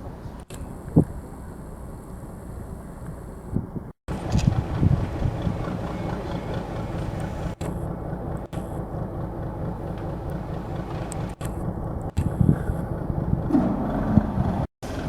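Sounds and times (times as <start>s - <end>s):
engine rumbling at low revs: 0.0s - 15.0s.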